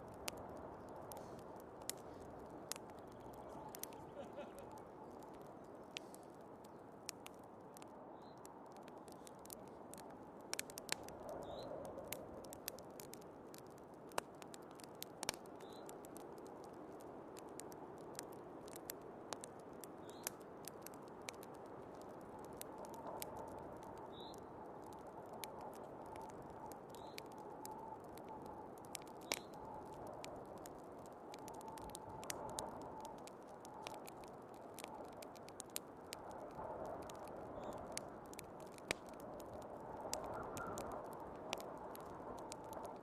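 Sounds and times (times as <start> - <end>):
sharp pops of fire: 0.0 - 43.0
wood fire crackling: 0.0 - 43.0.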